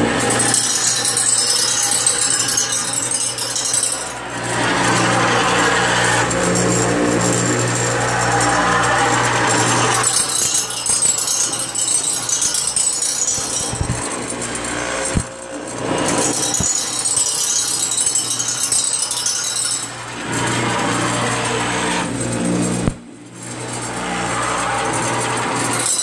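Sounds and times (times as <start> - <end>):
grinder motor hum: 0.0 - 26.0
reel blades grinding on wheel: 0.0 - 26.0.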